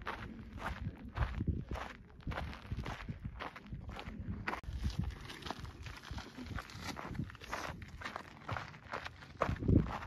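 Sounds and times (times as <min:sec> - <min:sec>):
footsteps on dirt trail: 0:00.0 - 0:10.0.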